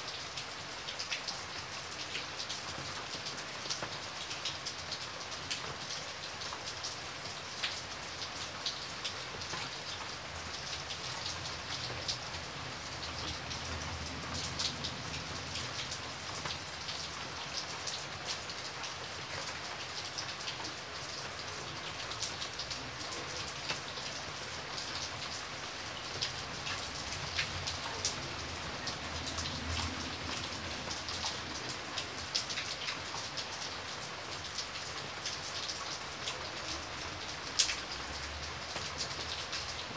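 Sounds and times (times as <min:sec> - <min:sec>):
steady rain hiss: 0:00.0 - 0:39.9
raindrops ticking: 0:07.6 - 0:39.9.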